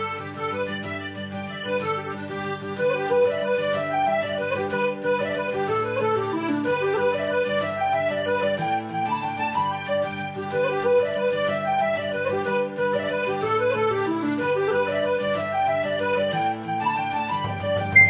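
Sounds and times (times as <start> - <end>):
solo accordion tune: 0.0 - 18.0.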